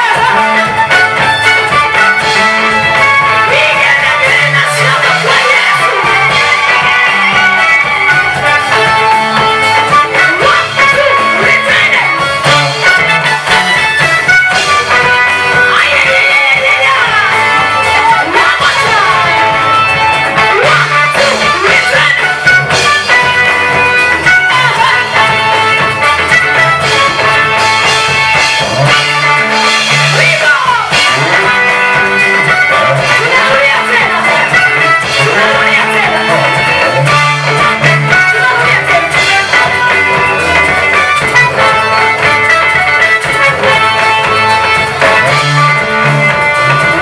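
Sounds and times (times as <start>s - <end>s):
gospel music led by guitar: 0.0s - 47.0s.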